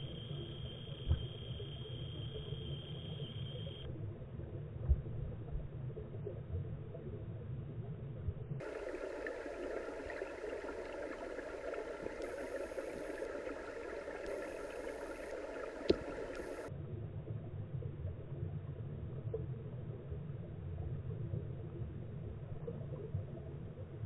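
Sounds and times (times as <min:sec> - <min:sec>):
muffled underwater rumble and hiss: 0:00.0 - 0:24.0.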